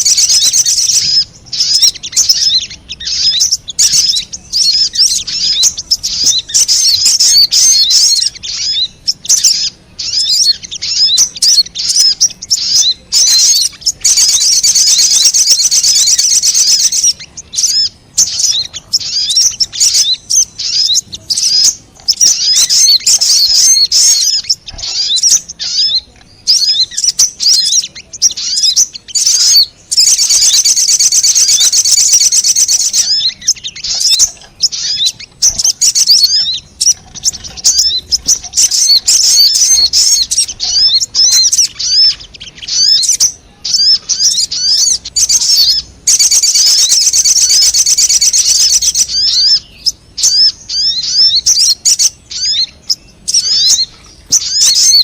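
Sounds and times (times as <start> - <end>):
bird chattering chips and trills: 0.0 - 55.0.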